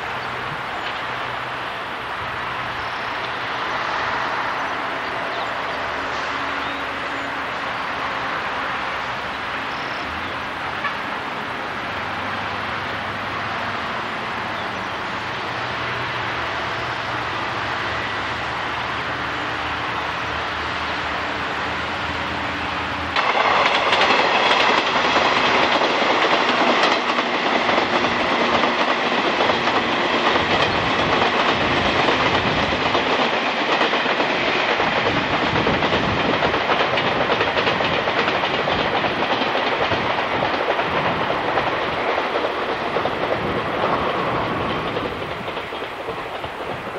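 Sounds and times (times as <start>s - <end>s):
loud close train passing: 0.0s - 46.9s
train wheels clicking on rails: 0.0s - 46.9s.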